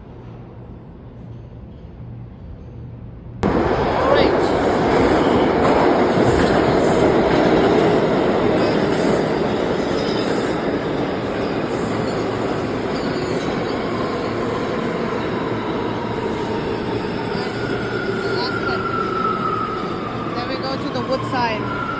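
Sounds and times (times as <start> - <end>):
subway train wheels rumbling: 0.0 - 21.9.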